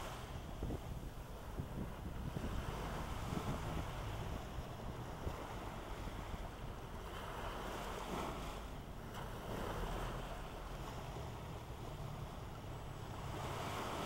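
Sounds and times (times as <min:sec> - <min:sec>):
wind and small waves: 0:00.0 - 0:14.0.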